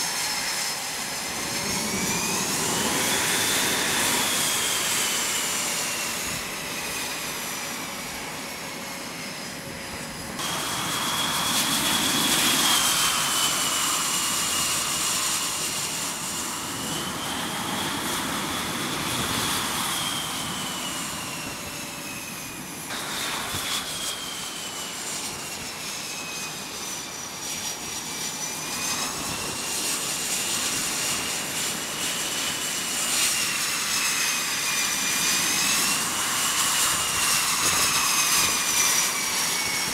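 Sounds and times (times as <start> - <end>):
high turbine whine: 0.0 - 39.9
jet engines rushing hiss: 0.0 - 39.9.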